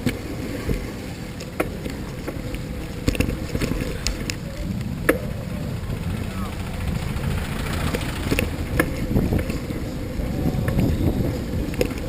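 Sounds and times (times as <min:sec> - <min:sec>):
bicycle road noise: 0:00.0 - 0:12.0
wind rumbling on microphone: 0:00.0 - 0:12.0.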